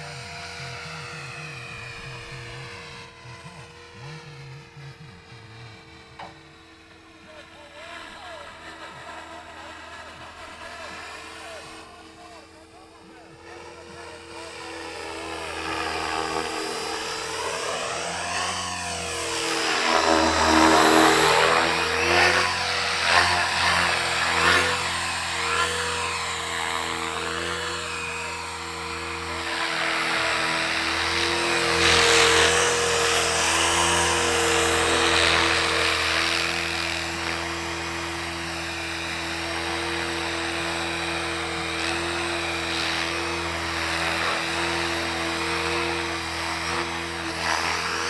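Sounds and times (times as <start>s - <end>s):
model helicopter rotor whine: 0.0s - 48.0s.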